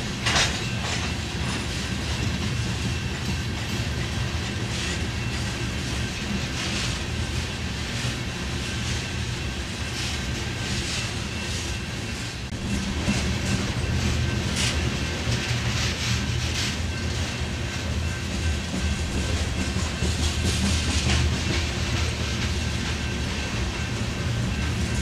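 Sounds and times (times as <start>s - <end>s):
train rolling past rumble: 0.0s - 25.0s.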